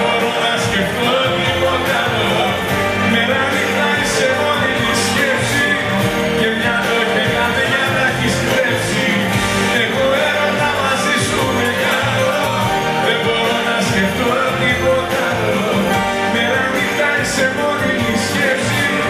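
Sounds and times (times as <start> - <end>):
live band playing: 0.0 - 19.0
man singing: 0.0 - 19.0.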